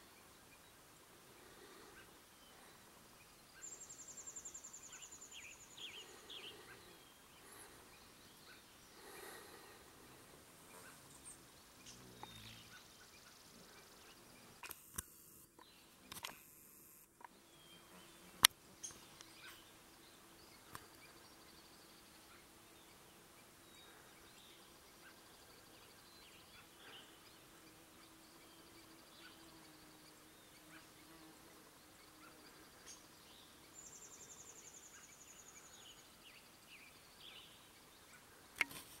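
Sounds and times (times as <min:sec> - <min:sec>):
faint outdoor background: 0:00.0 - 0:39.0.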